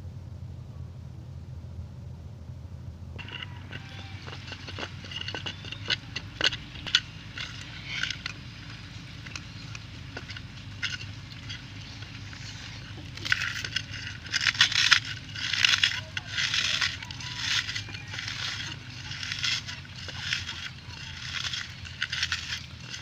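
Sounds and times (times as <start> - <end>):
steady low hum: 0.0 - 23.0
bread and biscuits crumbling: 3.2 - 23.0.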